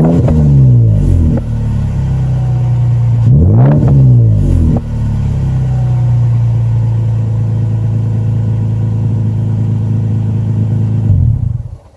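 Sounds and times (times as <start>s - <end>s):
engine idling with deep drone: 0.0s - 11.9s.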